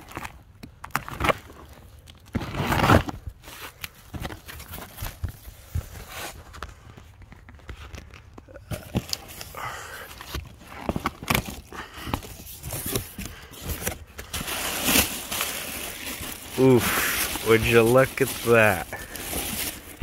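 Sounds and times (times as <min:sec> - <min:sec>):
packaging crinkling and tearing: 0:00.0 - 0:20.0.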